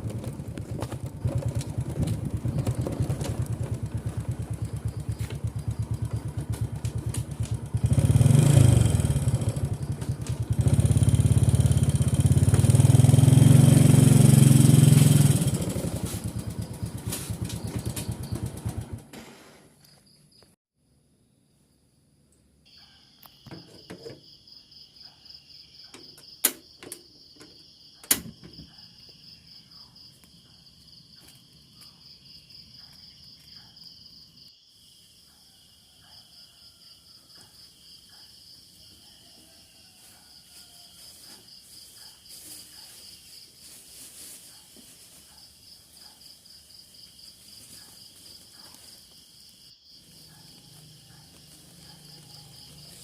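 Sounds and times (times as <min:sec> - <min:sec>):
crickets trilling: 0:00.7 - 0:18.6, 0:22.7 - 0:53.0.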